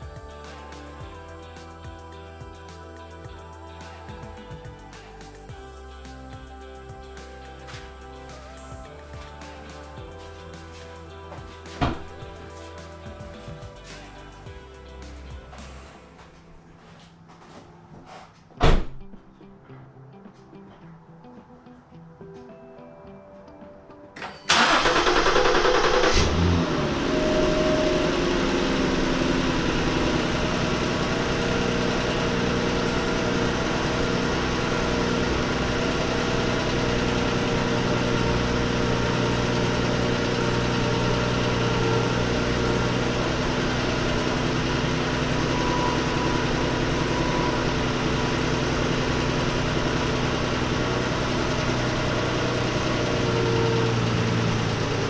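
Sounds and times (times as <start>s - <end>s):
car engine starting and idling: 0.0s - 17.4s, 24.2s - 55.0s.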